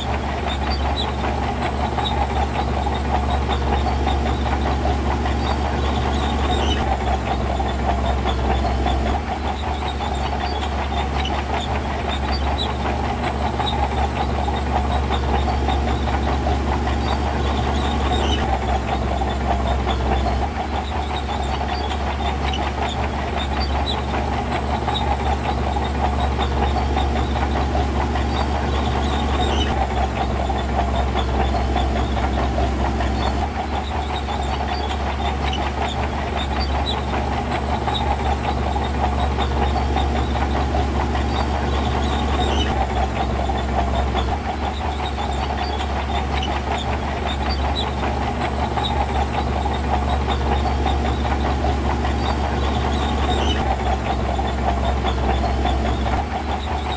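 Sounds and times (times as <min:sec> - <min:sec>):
diesel machinery engine running: 0:00.0 - 0:56.9
rattling clatter: 0:00.0 - 0:56.9.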